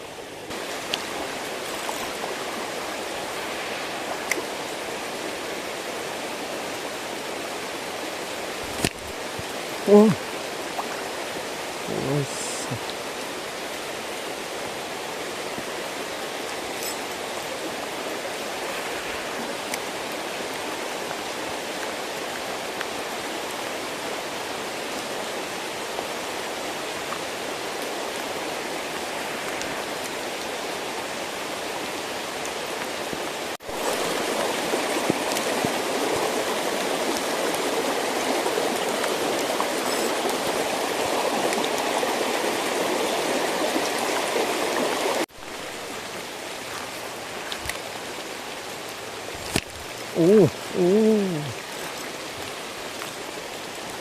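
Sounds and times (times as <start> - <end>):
water rushing in stream: 0.0 - 54.0.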